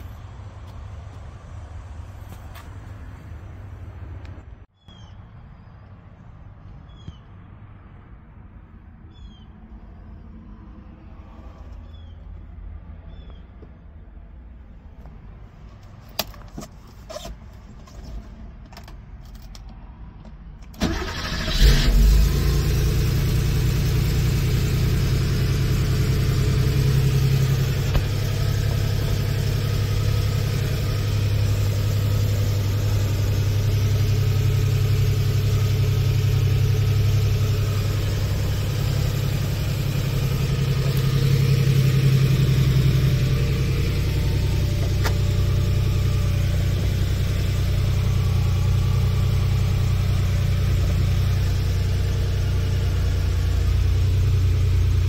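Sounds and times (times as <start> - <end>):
car engine starting and idling: 10.6 - 55.0.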